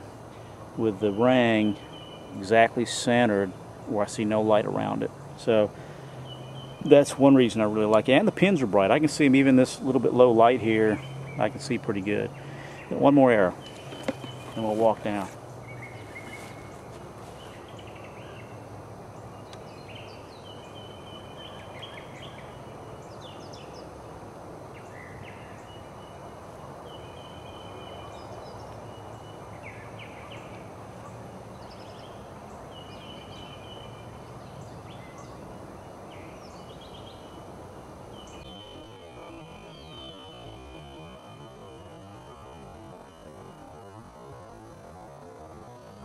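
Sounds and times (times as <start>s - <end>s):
bird chirping: 0.0s - 24.0s, 24.7s - 37.5s, 38.1s - 46.0s
outdoor background noise: 0.0s - 46.0s.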